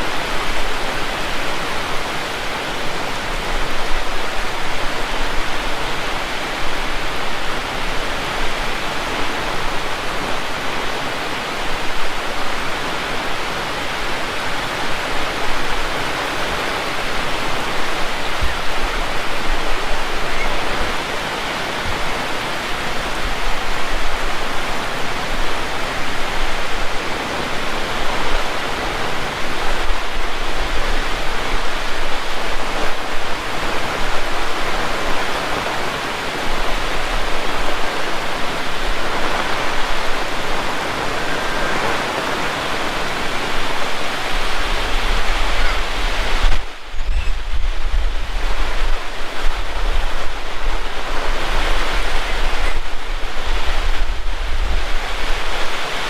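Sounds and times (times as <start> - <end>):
heavy rain falling: 0.0 - 56.0
wind rumble on microphone: 0.0 - 56.0.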